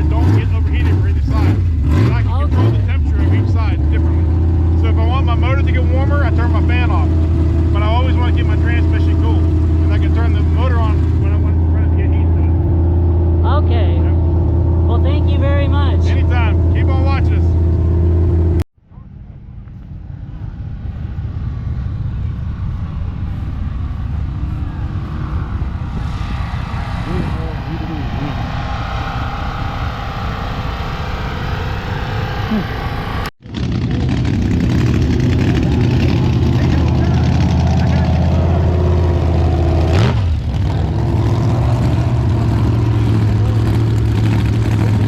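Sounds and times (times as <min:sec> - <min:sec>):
truck engines rumbling: 0:00.0 - 0:45.0.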